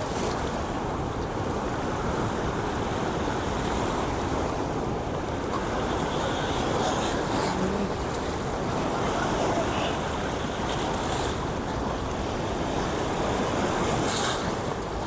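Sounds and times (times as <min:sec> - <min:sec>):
water rushing through spillway: 0:00.0 - 0:15.0.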